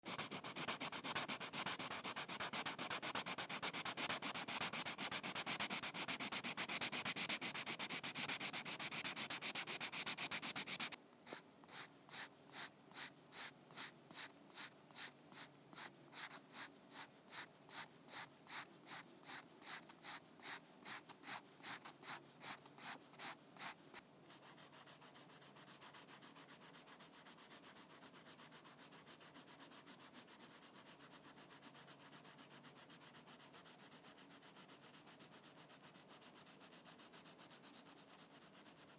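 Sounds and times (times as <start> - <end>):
pencil crayon drawing on paper: 0.1 - 38.9.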